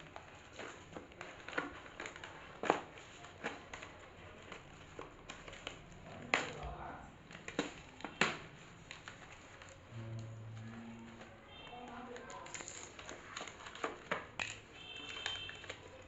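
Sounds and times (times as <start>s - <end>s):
packaging being handled: 0.0s - 16.0s.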